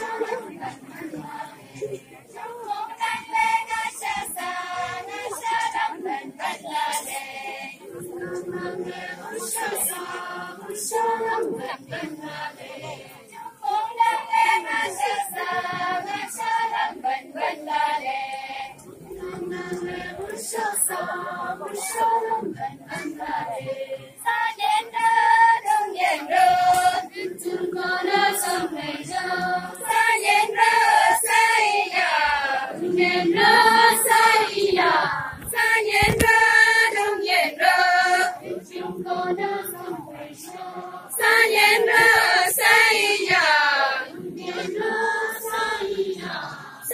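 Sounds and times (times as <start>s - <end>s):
women singing together: 0.0s - 46.9s.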